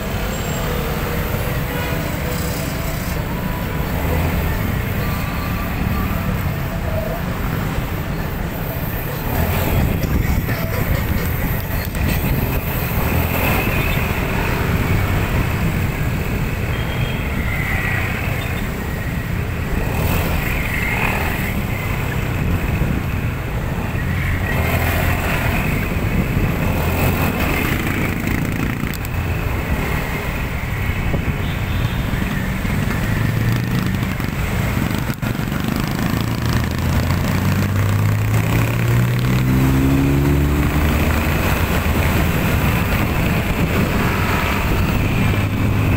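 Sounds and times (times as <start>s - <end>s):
hum of cars: 0.0s - 45.9s.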